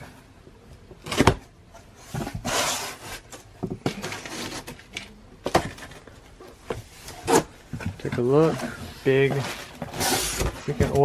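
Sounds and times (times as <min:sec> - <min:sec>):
packaging rustling and scraping: 0:02.0 - 0:11.0.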